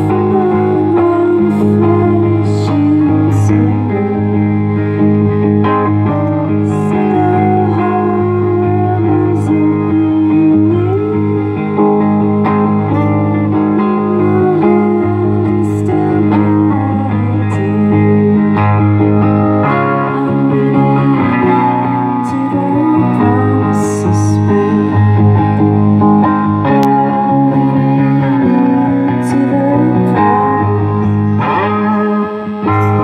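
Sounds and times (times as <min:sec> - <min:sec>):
electric guitar blues solo: 0:00.0 - 0:33.0.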